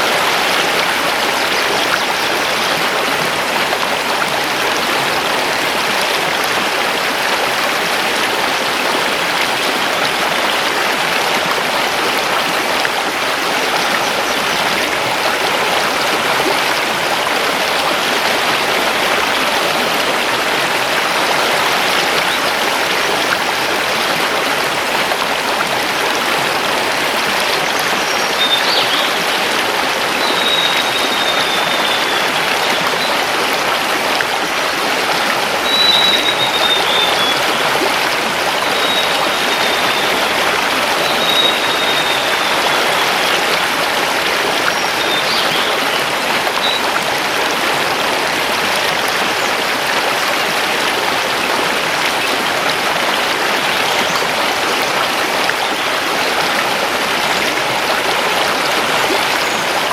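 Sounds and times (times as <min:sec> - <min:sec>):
river rushing over stones: 0:00.0 - 0:59.9.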